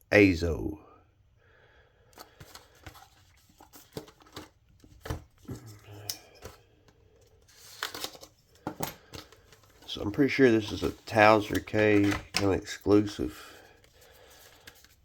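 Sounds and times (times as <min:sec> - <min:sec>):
packaging being handled: 0:02.2 - 0:15.0.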